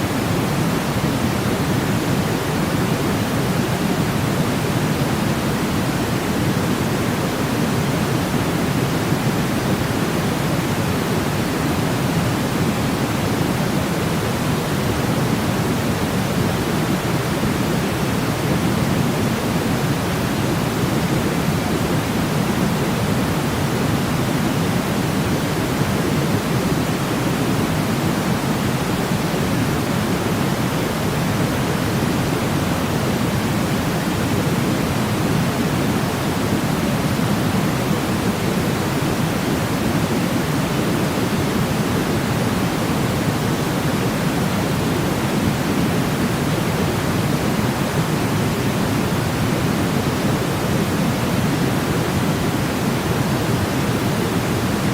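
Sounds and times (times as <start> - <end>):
deep white noise hiss: 0.0 - 54.9.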